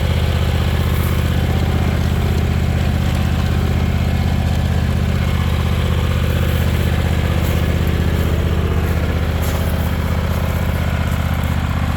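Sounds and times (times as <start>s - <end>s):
lawn tractor engine idling: 0.0s - 11.9s.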